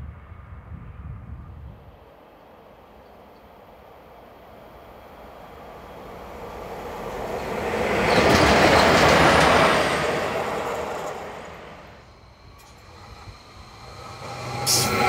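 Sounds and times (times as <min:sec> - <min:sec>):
locomotives passing on rails: 0:00.1 - 0:15.0.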